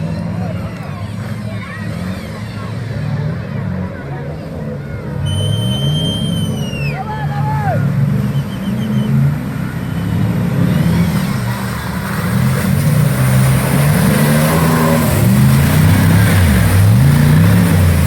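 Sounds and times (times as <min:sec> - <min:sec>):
off-road engine revving hard: 0:00.0 - 0:18.0.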